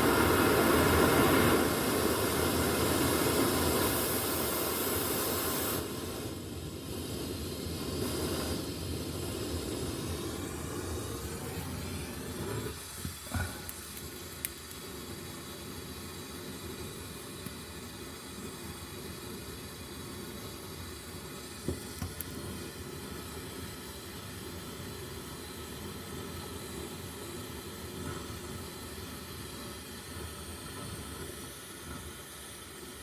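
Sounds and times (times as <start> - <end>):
gas torch hissing: 0.0 - 33.0.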